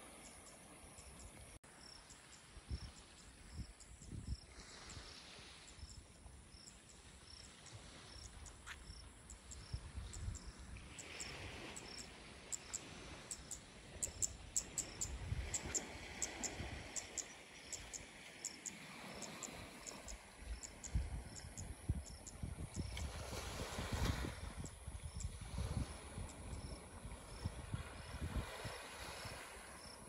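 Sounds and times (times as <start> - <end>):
insect chirping: 0.0 - 30.0.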